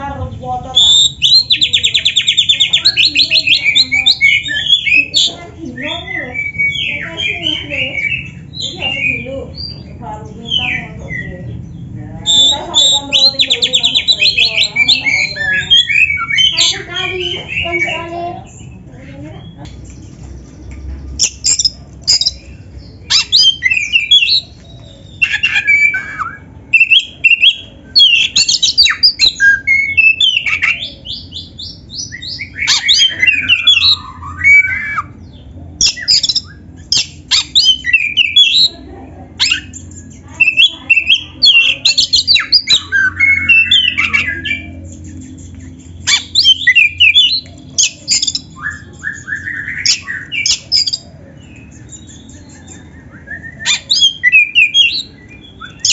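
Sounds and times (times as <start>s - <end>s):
songbird singing varied song: 0.0s - 55.9s.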